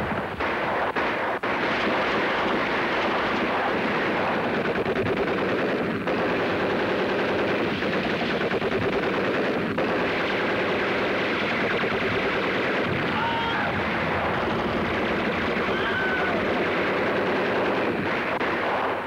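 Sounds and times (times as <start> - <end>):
rapid machine-gun fire: 0.0 - 19.0.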